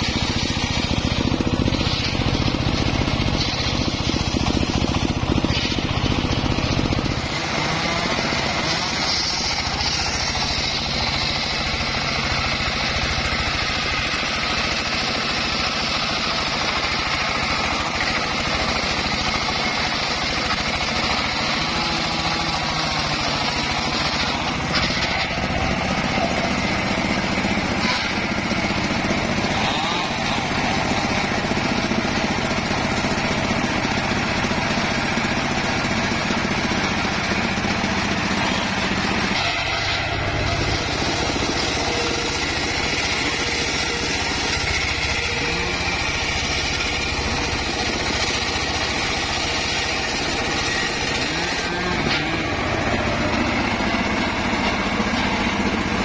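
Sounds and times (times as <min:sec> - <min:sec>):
circular sawmill cutting wood: 0:00.0 - 0:56.0.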